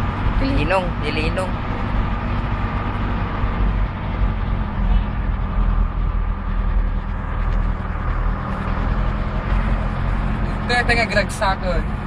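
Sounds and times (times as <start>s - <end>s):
road noise on dirt track: 0.0s - 12.0s
vehicle engine running: 0.0s - 12.0s.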